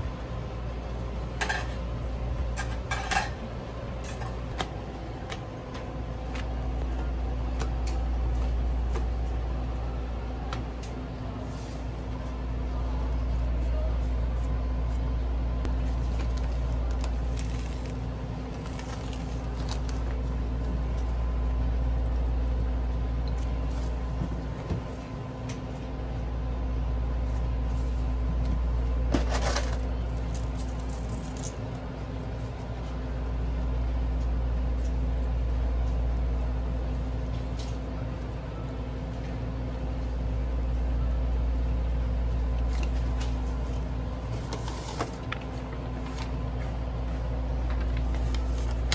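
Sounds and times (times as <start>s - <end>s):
low machine hum: 0.0s - 48.9s.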